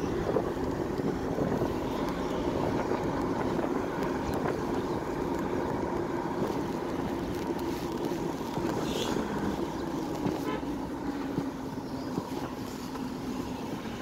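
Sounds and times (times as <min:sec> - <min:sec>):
tyre noise on wet road: 0:00.0 - 0:14.0
vehicle engine drone: 0:00.0 - 0:14.0.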